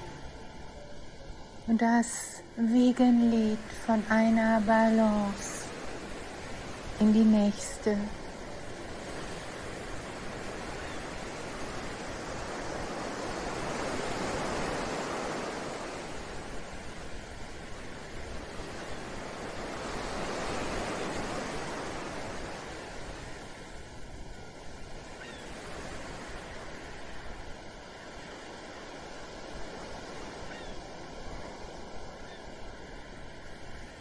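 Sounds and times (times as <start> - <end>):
ocean waves washing in: 0.0 - 34.0.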